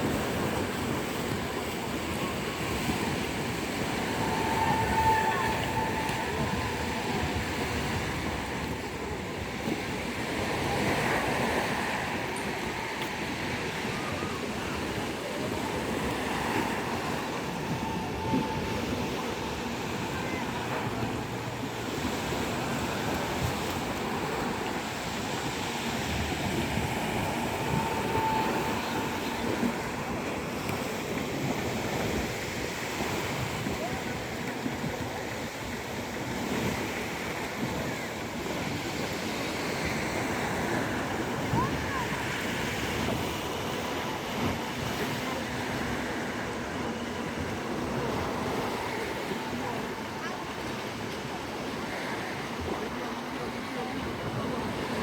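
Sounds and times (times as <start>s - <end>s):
sea surf washing onto beach: 0.0s - 55.0s.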